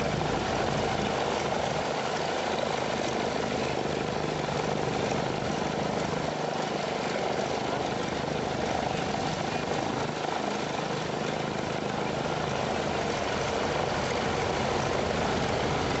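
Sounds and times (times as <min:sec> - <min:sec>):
biplane radial engine running: 0:00.0 - 0:16.0.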